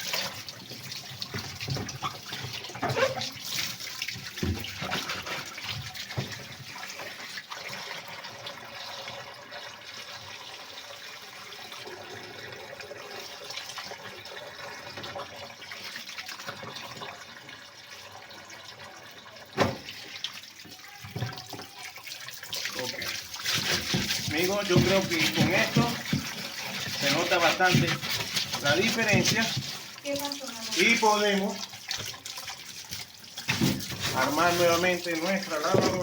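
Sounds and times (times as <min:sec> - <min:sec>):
running water splashing: 0:00.0 - 0:36.0.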